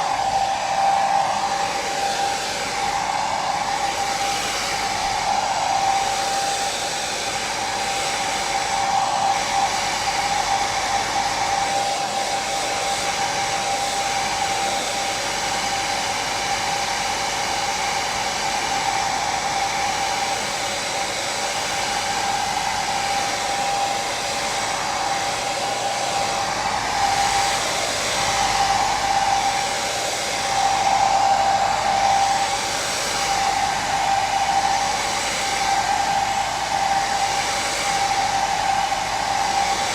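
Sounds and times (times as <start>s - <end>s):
electric hair dryer running: 0.0s - 39.9s.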